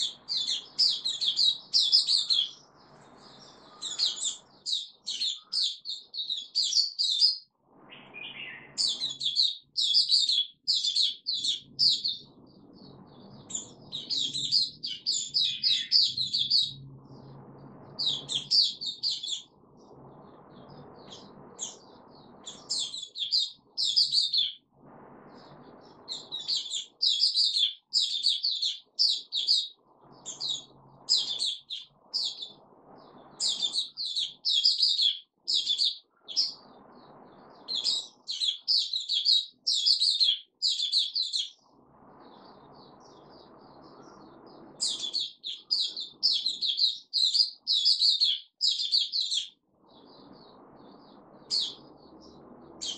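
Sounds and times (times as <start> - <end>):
bird twittering chirps: 0.0 - 24.7, 25.3 - 52.9.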